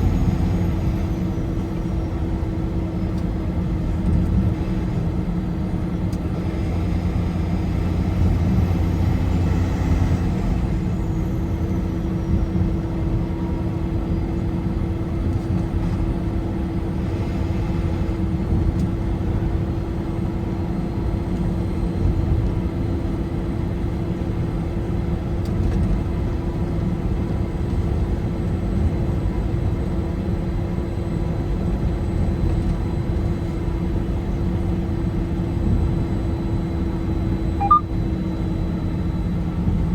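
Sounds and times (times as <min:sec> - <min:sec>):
constant low hum: 0:00.0 - 0:39.9.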